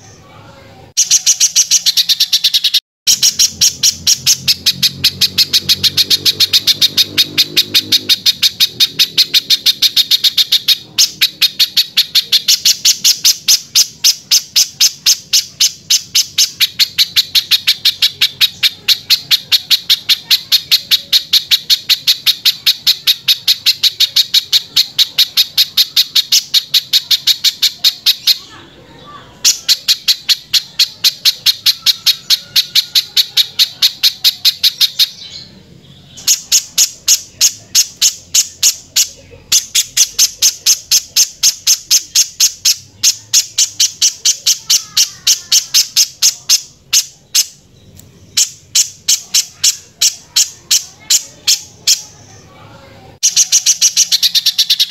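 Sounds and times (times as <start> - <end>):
bird calling harsh repeated notes: 0.9 - 54.9.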